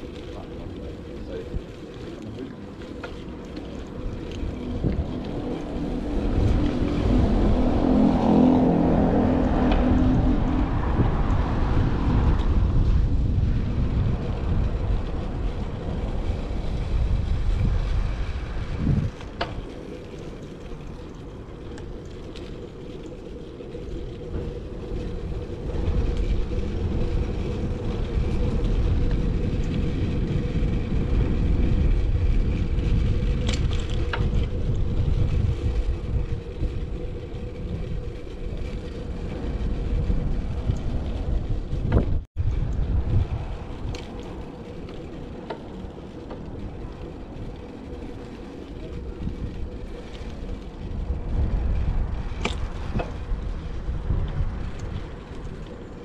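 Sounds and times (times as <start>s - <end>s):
motor vehicle passing: 0.0s - 56.0s
street traffic: 0.0s - 56.0s
wind rumble: 0.0s - 56.0s.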